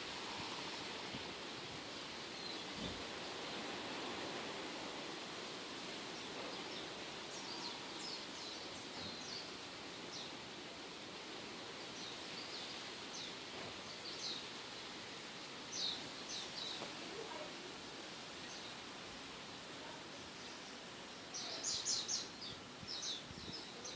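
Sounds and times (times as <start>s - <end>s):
small birds chirping: 0.0s - 23.9s
steady outdoor hiss: 0.0s - 23.9s.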